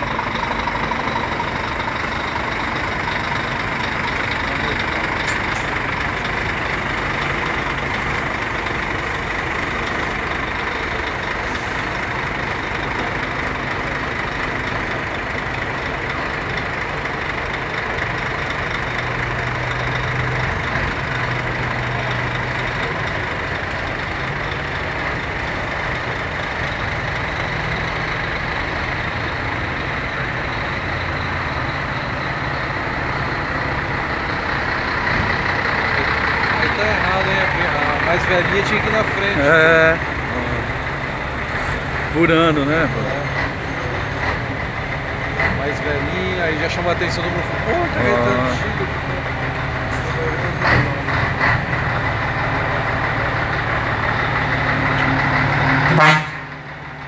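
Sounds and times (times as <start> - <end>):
diesel truck engines running: 0.0 - 57.0.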